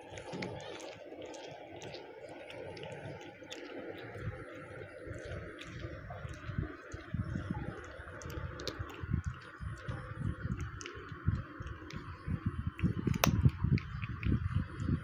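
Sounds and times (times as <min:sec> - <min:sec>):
cat chewing with wet crunches: 0:00.0 - 0:15.0.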